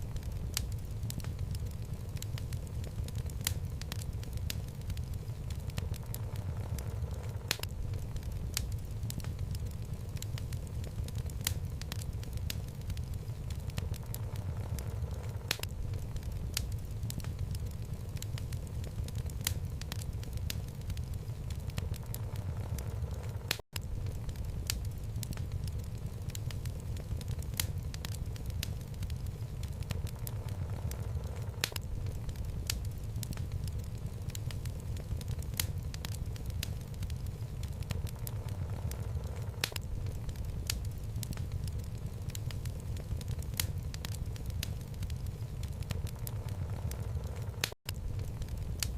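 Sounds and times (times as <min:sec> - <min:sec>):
fire flames rumbling: 0:00.0 - 0:48.9
logs crackling and popping: 0:00.0 - 0:48.9.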